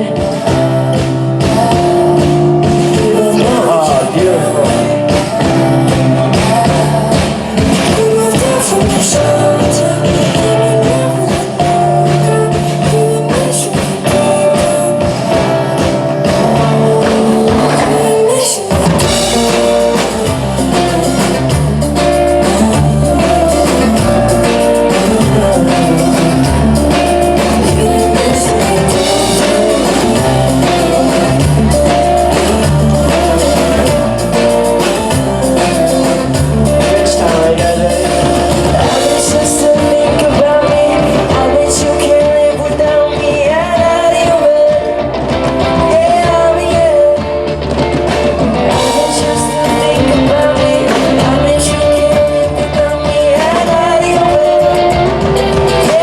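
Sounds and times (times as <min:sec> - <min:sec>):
live pop band playing: 0:00.0 - 0:56.0.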